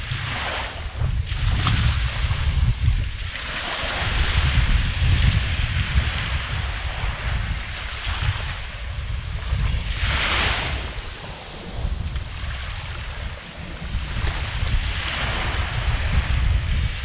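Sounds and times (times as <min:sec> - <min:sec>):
small waves breaking: 0:00.0 - 0:17.0
wind buffeting microphone: 0:00.0 - 0:17.0.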